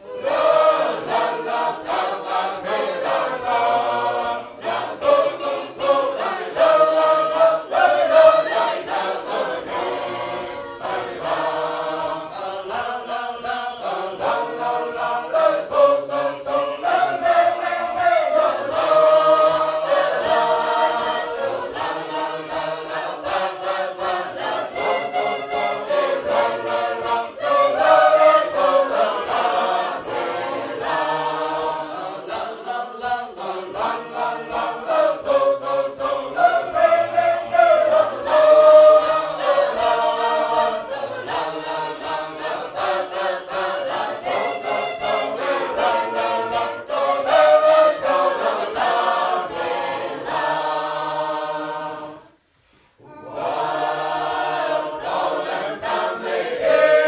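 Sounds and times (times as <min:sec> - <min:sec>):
choir singing in parts unaccompanied: 0:00.0 - 0:57.0.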